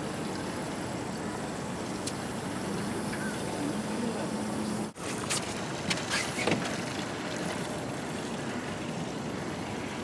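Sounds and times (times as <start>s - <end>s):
wind and water rushing past: 0.0s - 10.0s.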